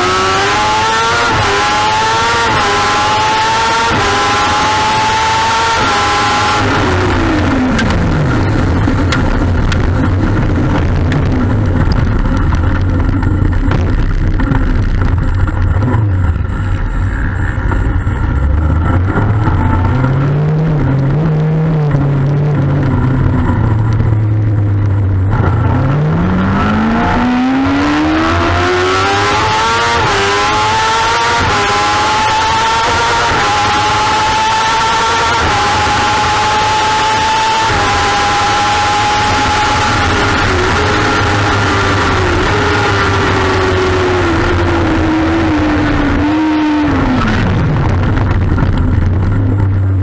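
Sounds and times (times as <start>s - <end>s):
motorcycle engine accelerating: 0.0s - 50.0s
wind noise: 0.0s - 50.0s.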